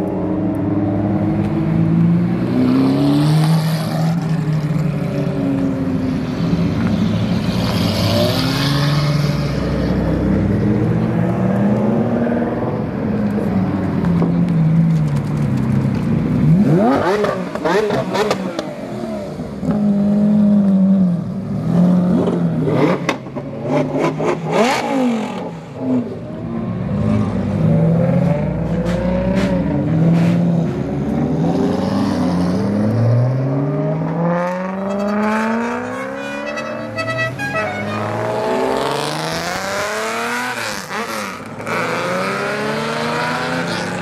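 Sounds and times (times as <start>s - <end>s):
car engines revving and accelerating: 0.0s - 44.0s.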